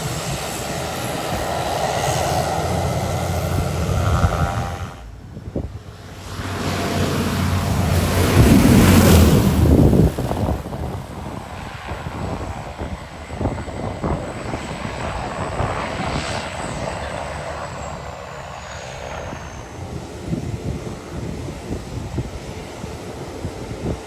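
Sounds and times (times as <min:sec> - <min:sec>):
propeller airplane engine: 0:00.0 - 0:24.0
wind buffeting microphone: 0:00.0 - 0:24.0.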